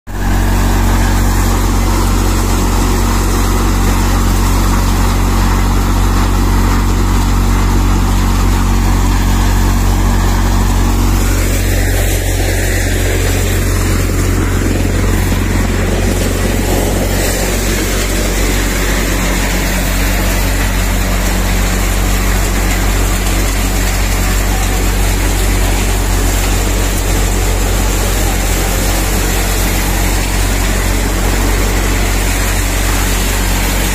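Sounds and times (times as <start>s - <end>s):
thresher drum and fans rushing: 0.1s - 33.9s
tractor engine drone: 0.1s - 33.9s.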